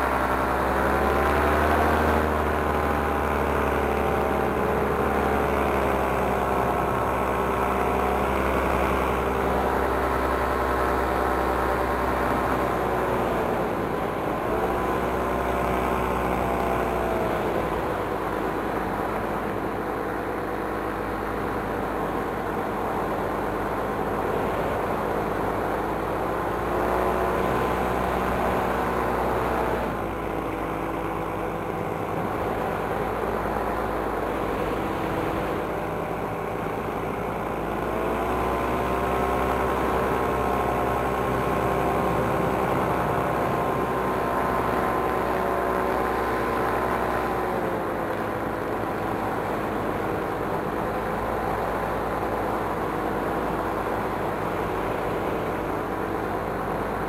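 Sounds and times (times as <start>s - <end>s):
paramotor engine running: 0.0s - 57.0s.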